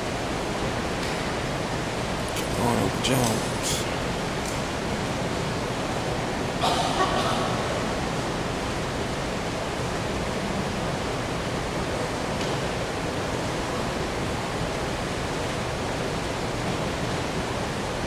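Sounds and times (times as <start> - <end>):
room noise hiss: 0.0 - 18.0.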